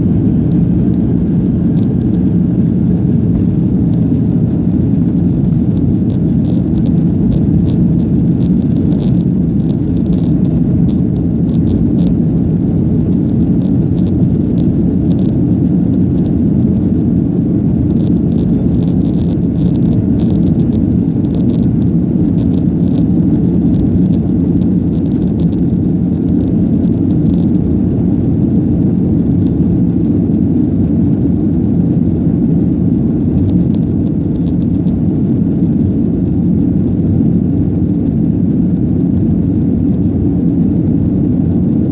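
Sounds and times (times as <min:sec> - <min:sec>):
jet engines low rumble: 0:00.0 - 0:41.9.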